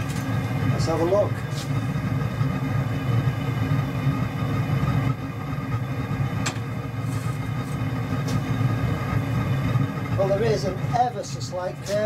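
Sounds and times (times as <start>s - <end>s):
forge roaring and humming: 0.0s - 12.0s.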